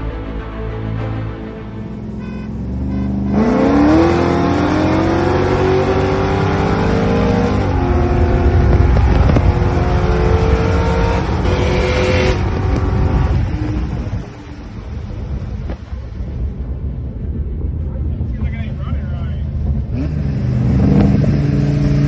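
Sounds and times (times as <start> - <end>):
car engines accelerating: 0.0 - 15.8, 18.0 - 22.0.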